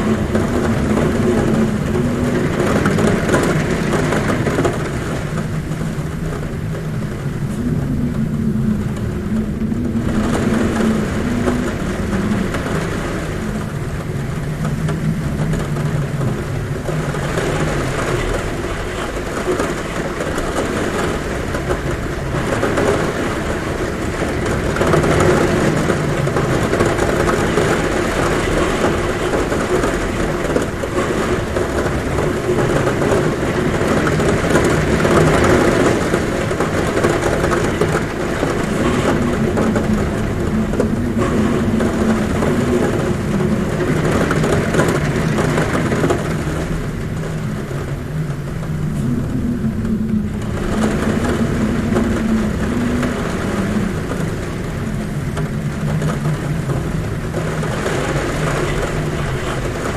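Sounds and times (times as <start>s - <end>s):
heavy rain on a roof: 0.0s - 59.9s
low wind hum: 0.0s - 59.9s.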